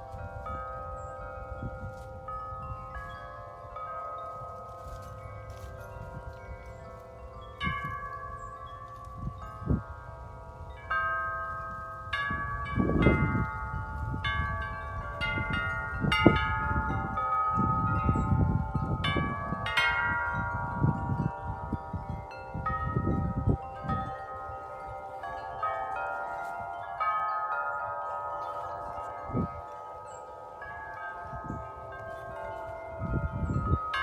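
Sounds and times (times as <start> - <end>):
tubular wind chimes ringing: 0.0 - 34.0
wind rumbling on microphone: 0.0 - 34.0.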